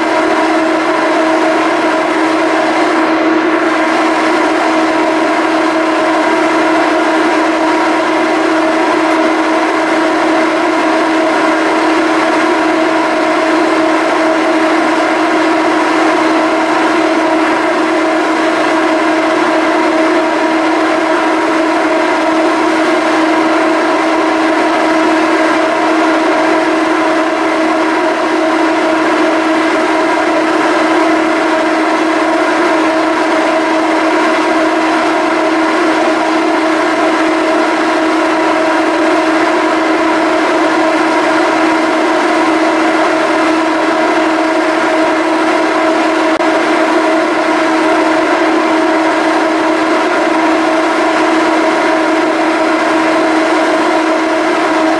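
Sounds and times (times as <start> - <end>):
ferry machinery drone: 0.0 - 54.9.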